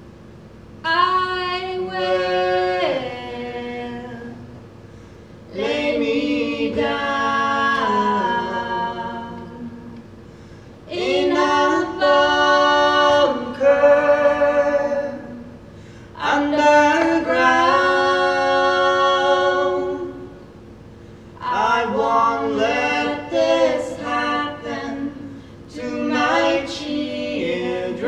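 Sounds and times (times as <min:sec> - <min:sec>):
unaccompanied voices singing chords: 0:00.8 - 0:04.7, 0:05.4 - 0:20.5, 0:21.4 - 0:28.0.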